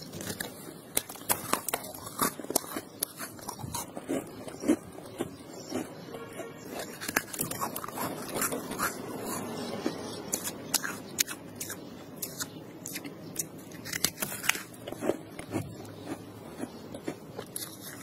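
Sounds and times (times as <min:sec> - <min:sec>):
crisp crunches of chewing frost: 0:00.0 - 0:09.4, 0:10.3 - 0:18.0.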